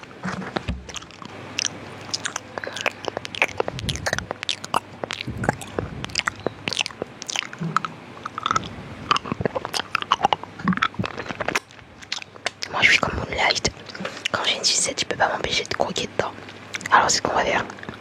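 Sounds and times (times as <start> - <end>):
wet mouth clicks and smacks: 0.6 - 14.6, 15.4 - 17.0, 17.6 - 18.0.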